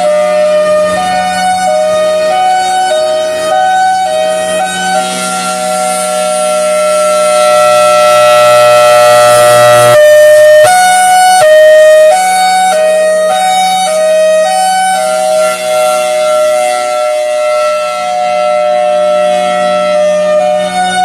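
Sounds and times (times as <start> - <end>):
warning siren hi-lo signal: 0.0 - 21.0.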